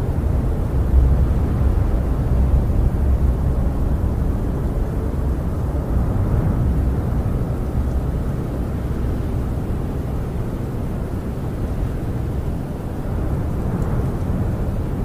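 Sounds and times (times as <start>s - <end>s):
storm wind rushing: 0.0s - 15.0s.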